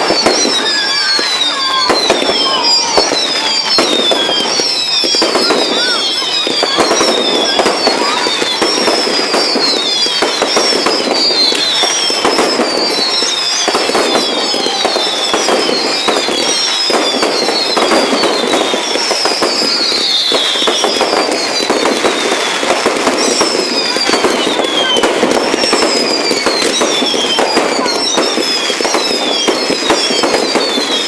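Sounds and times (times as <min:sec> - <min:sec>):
firework whistle falling in pitch: 0:00.0 - 0:31.0
fireworks crackling and banging: 0:00.0 - 0:31.0.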